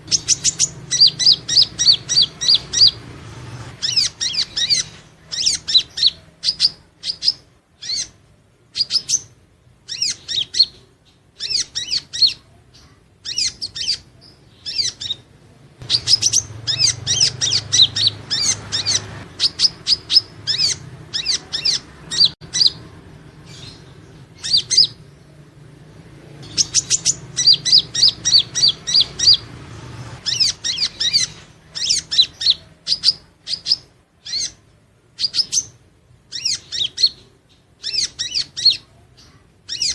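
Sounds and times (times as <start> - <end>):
sunbird singing high thin chirps: 0.0 - 3.1, 8.8 - 25.4, 26.4 - 29.5, 30.2 - 34.6, 35.2 - 39.9.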